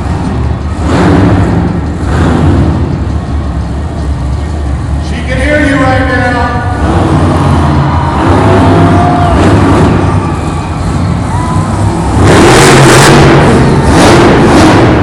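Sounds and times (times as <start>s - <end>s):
monster truck engine roaring: 0.0s - 15.0s.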